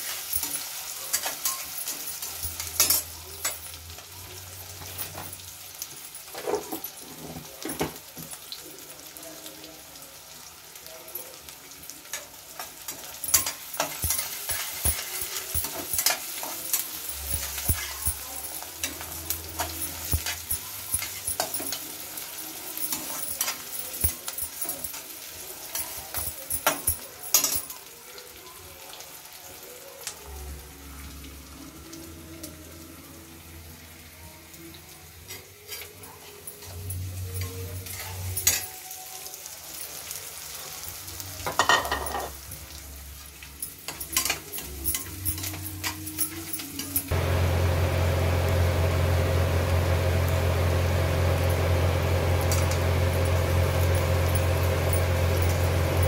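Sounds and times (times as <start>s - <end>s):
onion sizzling in oil: 0.0s - 56.0s.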